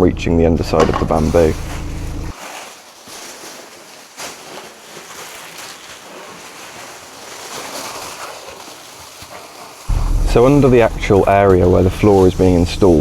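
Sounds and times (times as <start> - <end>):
foil underlay rustling: 0.7 - 13.0.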